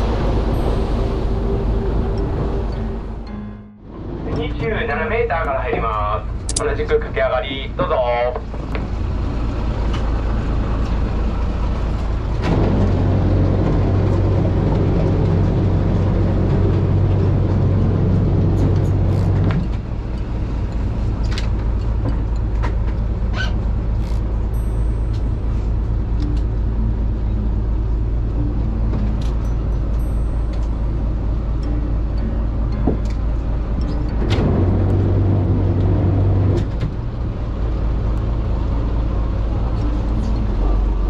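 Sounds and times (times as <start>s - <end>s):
boat engine rumbling: 0.0s - 41.0s.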